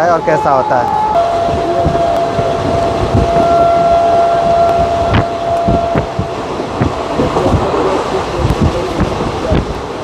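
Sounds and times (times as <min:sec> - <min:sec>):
high whine: 0:00.0 - 0:09.0
train wheels rumbling on rails: 0:01.2 - 0:10.0
wheels clacking over rail joints: 0:01.2 - 0:10.0.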